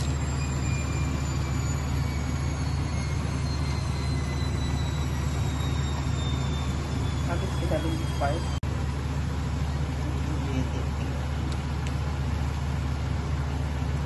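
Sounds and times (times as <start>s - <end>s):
gas burner rumble and hiss: 0.0s - 14.0s.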